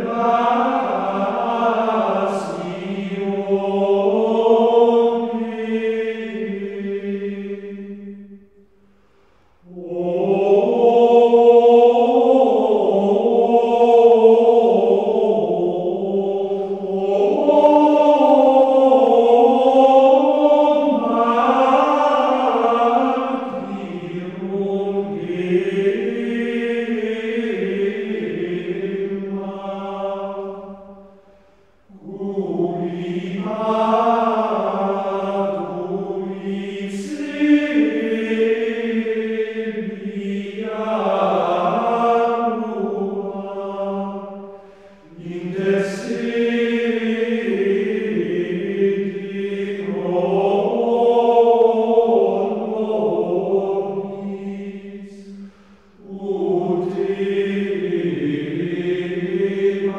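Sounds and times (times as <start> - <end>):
choir chanting: 0.0 - 8.7, 9.6 - 59.9.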